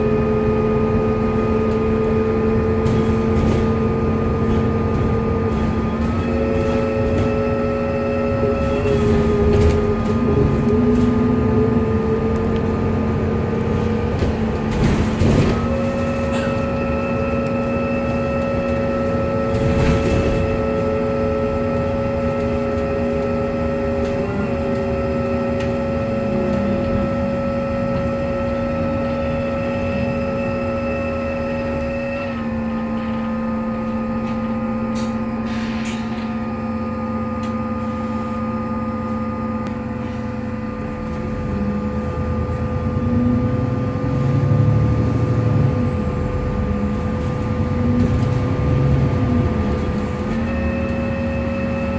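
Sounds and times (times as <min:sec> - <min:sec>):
bus engine: 0:00.0 - 0:51.9
bus whirring whine: 0:00.0 - 0:51.9
road rumble: 0:00.0 - 0:51.9.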